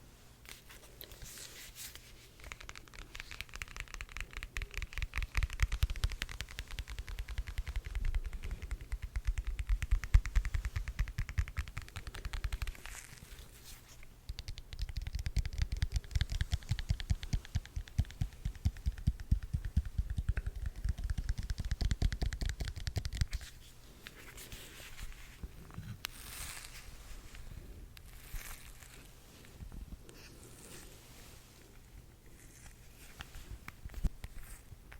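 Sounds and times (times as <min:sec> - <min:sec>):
crinkling: 0:00.4 - 0:34.9
tapping and scratching on microphone: 0:01.2 - 0:30.8, 0:31.8 - 0:34.9.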